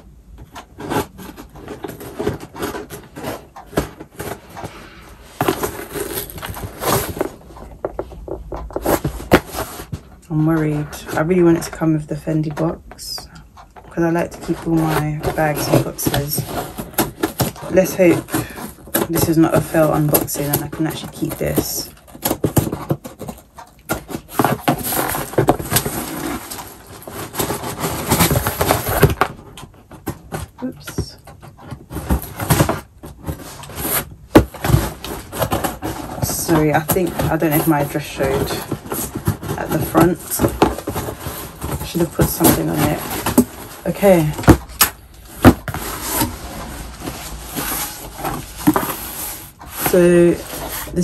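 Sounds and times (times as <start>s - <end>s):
cardboard scraping and rustling: 0.0s - 51.0s.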